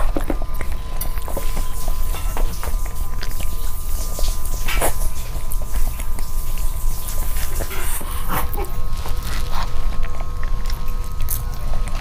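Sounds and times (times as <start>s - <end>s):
steady low hum: 0.0s - 12.0s
wet clicks of eating and chewing: 0.0s - 12.0s.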